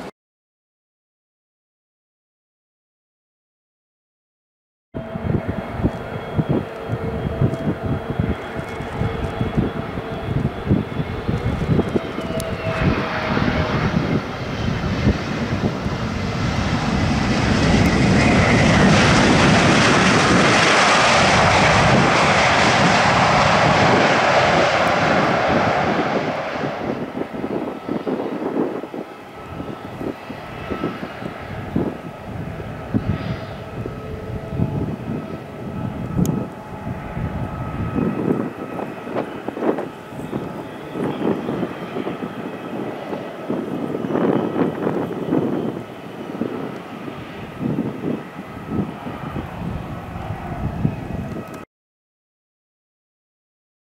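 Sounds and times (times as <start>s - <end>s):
jet engine whine at low power: 5.0s - 51.7s
jet engines roaring: 5.0s - 51.7s.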